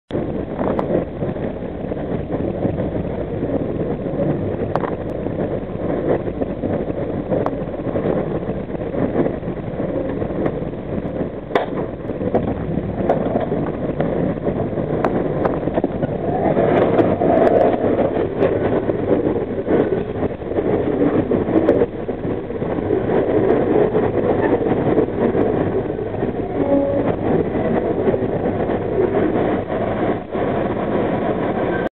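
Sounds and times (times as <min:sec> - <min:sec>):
freight train rumble and clatter: 0:00.1 - 0:31.9
wheels clicking over rails: 0:00.1 - 0:31.9.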